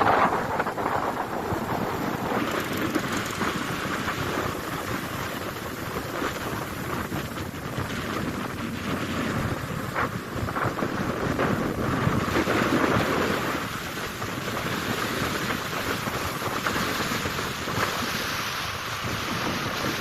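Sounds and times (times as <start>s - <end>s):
rough sea surf: 0.0s - 20.0s
wind gusting on microphone: 0.0s - 20.0s.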